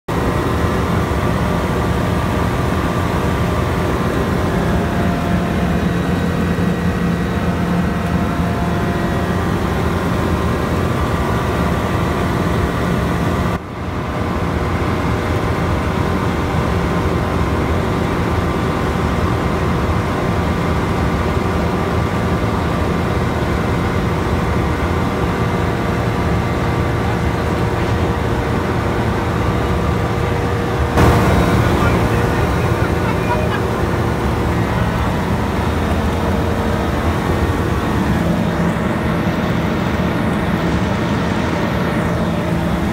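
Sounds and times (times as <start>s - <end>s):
light aircraft engine drone: 0.1s - 42.9s.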